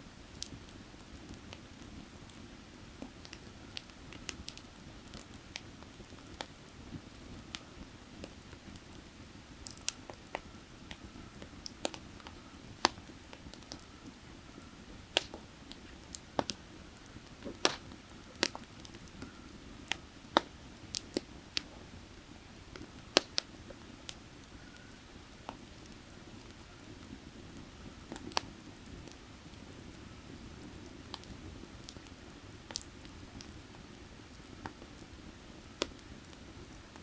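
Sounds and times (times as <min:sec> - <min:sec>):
firewood crackling and popping: 0:00.0 - 0:37.0.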